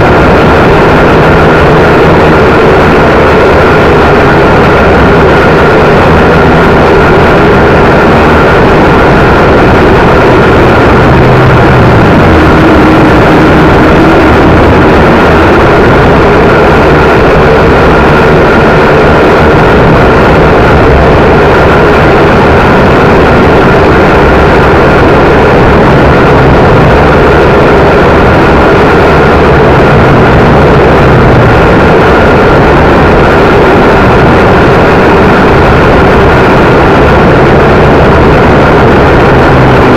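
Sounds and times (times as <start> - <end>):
wind buffeting: 0.0 - 39.9.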